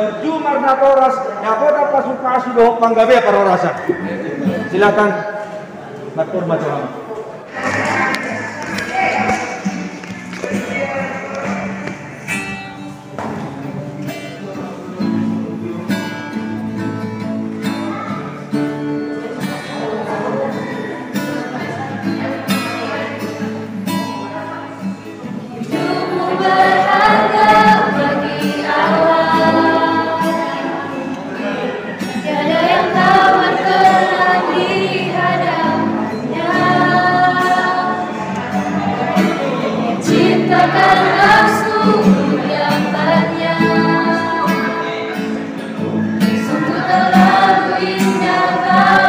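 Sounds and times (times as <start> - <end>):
girls' choir singing: 7.4 - 17.0, 17.6 - 49.0
acoustic guitar strummed chords: 7.5 - 49.0.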